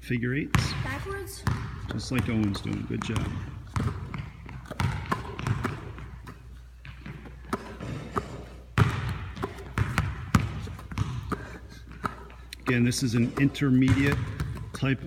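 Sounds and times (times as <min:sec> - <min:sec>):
basketballs thumping on hard floor: 0:00.5 - 0:15.0.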